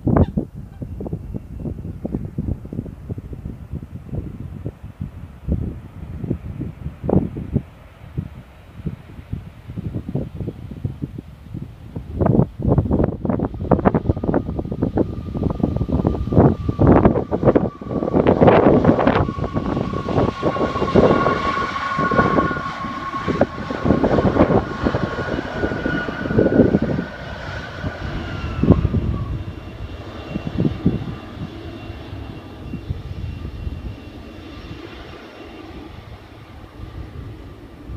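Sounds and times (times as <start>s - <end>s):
jet engines roaring past: 0.0s - 37.9s.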